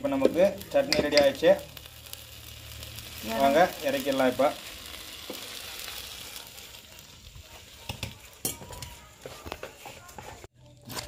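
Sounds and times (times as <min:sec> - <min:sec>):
chutney sizzling in oil: 0:00.0 - 0:11.0.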